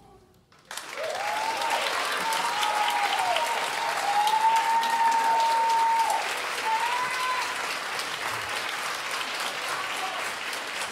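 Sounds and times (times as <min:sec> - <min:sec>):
audience applauding: 0:00.6 - 0:10.9
drawn-out cheer: 0:00.7 - 0:10.9.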